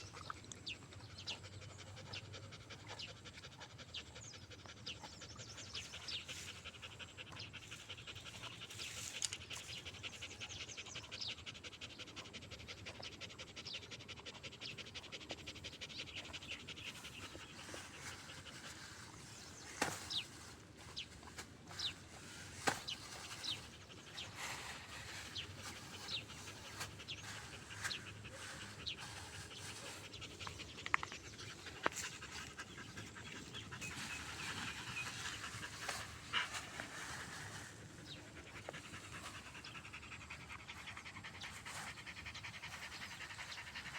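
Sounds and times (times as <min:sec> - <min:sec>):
dog panting rapidly: 0:00.7 - 0:20.3, 0:22.8 - 0:43.9.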